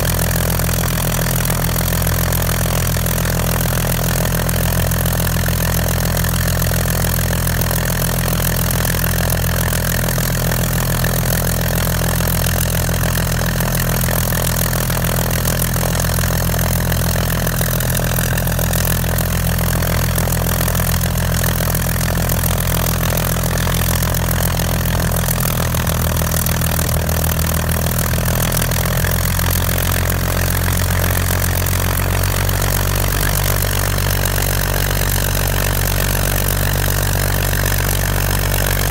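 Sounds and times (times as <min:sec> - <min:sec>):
propeller plane engine idling: 0:00.0 - 0:38.9.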